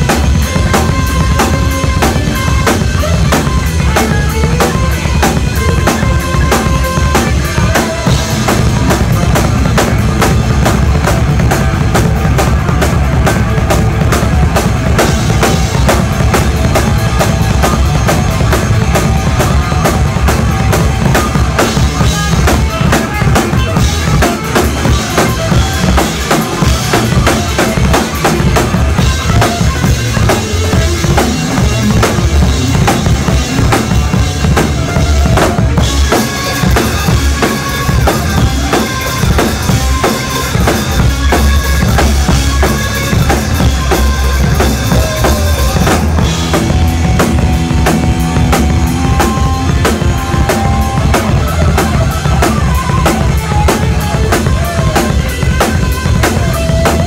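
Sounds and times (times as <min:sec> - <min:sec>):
bass drum and snare beat: 0:00.0 - 0:57.0
live band playing: 0:00.0 - 0:57.0.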